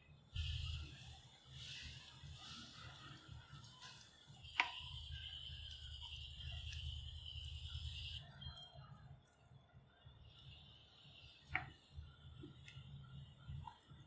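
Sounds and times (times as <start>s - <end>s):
steady high whine: 0.0s - 14.0s.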